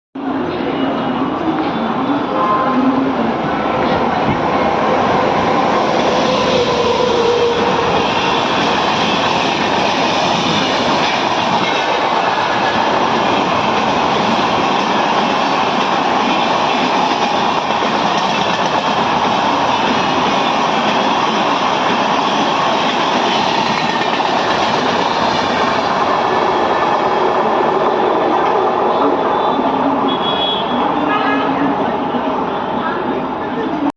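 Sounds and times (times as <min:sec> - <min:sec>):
train wheels rumbling on rails: 0:00.2 - 0:33.9.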